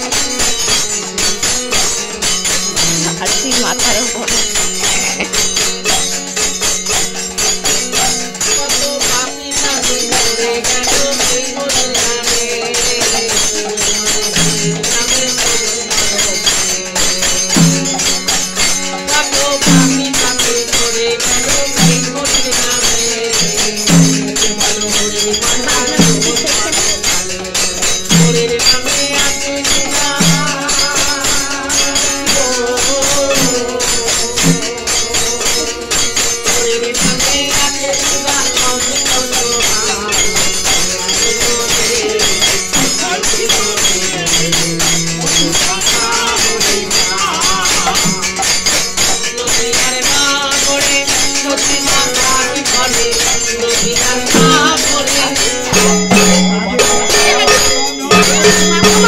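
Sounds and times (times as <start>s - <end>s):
hand cymbals jingling: 0.0s - 59.0s
harmonium: 0.0s - 59.0s
voices singing: 0.0s - 59.0s.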